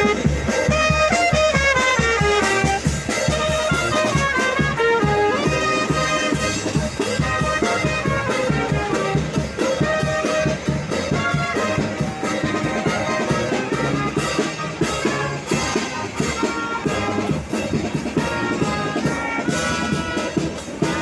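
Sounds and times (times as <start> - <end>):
brass band playing: 0.0 - 21.0
percussion beat: 0.0 - 21.0.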